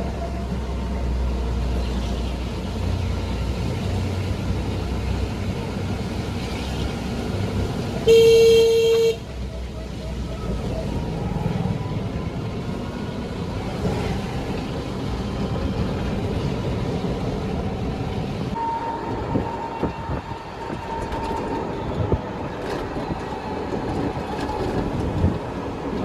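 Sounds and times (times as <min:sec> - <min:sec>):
moving vehicle rumble: 0:00.0 - 0:26.0.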